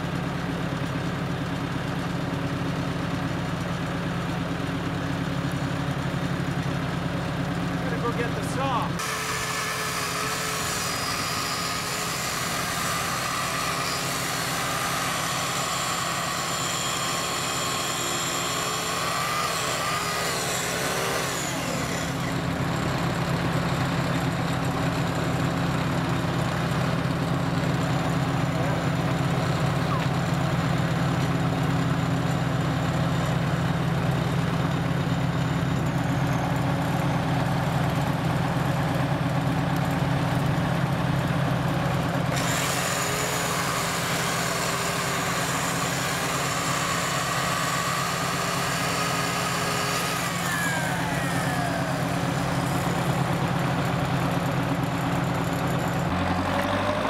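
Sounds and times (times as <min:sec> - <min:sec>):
crawler dozer engine running: 0:00.0 - 0:57.0.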